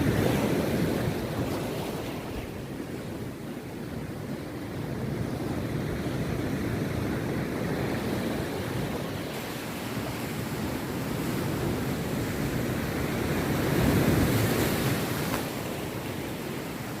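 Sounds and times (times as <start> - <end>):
surf breaking on a beach: 0.0 - 17.0
wind buffeting microphone: 0.0 - 17.0.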